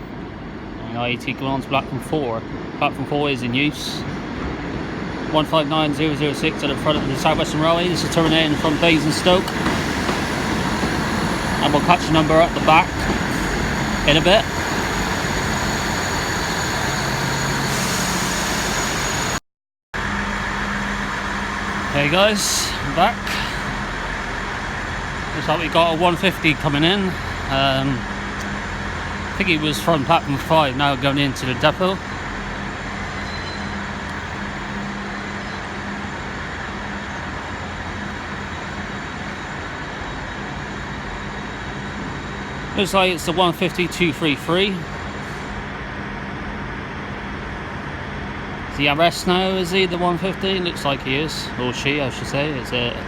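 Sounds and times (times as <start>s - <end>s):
diesel train engines idling: 0.0s - 19.4s, 20.0s - 53.0s.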